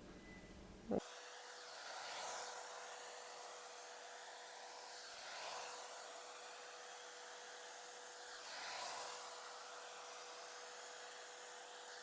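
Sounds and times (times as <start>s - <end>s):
hot-air brush hissing and humming: 1.0s - 12.0s.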